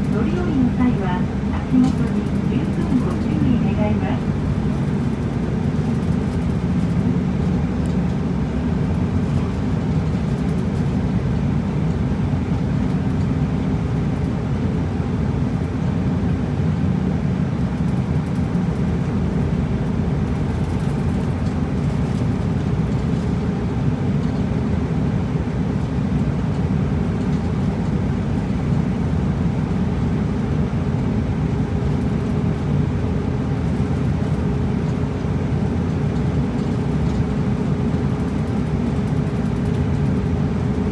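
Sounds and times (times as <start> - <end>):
bus engine and road drone: 0.0 - 40.9.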